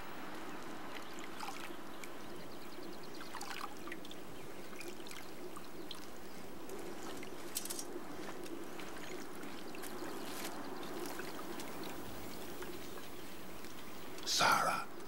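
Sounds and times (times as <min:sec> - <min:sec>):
soft background hiss: 0:00.0 - 0:15.0.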